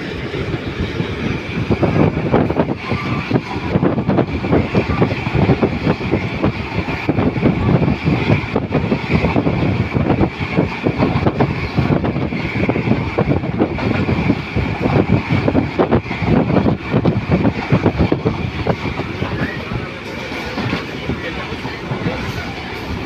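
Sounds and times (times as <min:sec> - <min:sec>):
passenger train rumble: 0:00.0 - 0:23.0
wind buffeting microphone: 0:00.0 - 0:23.0.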